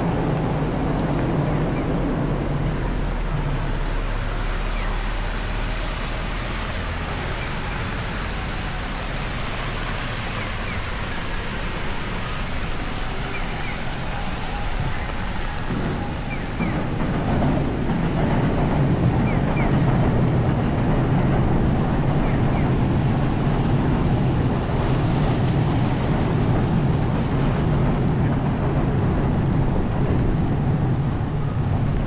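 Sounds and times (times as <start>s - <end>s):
heavy rain: 0.0s - 32.0s
wind buffeting microphone: 0.0s - 32.0s
wind rushing: 0.0s - 32.0s.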